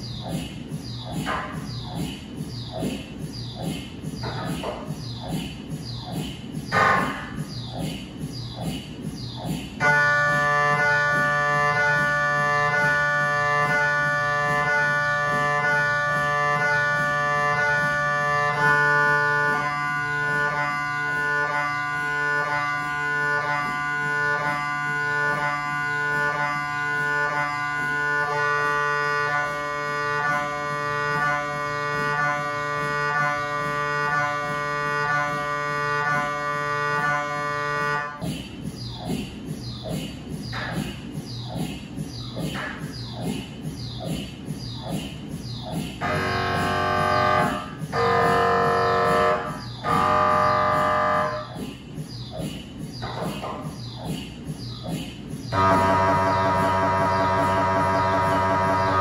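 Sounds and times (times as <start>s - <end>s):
mri scanner rhythmic buzzing: 0.0s - 59.0s.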